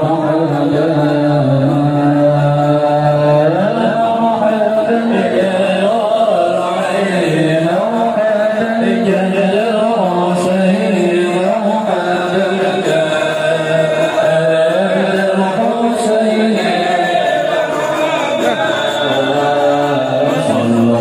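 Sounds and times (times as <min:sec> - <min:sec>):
men chanting together: 0:00.0 - 0:21.0.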